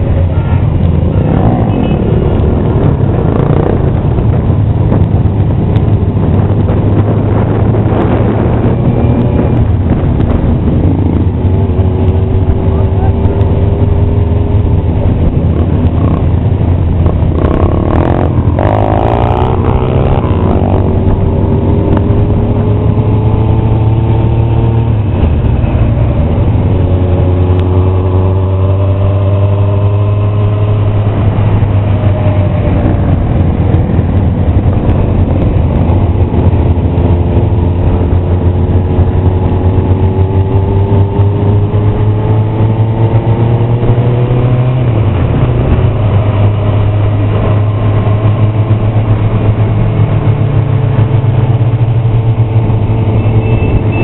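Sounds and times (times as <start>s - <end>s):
motorcycle engine revving: 0.0s - 54.0s
motorcycle engines droning: 0.0s - 54.0s.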